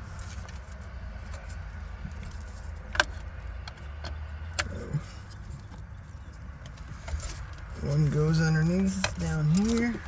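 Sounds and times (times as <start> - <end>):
plastic connectors and cables rattling: 0.2 - 10.0.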